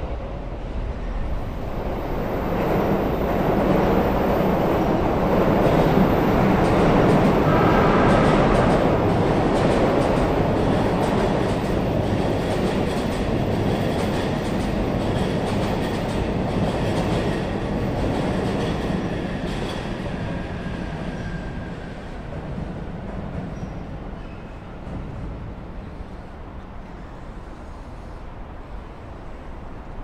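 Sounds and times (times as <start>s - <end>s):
electric train wheels rumbling on rail: 0.0s - 30.0s.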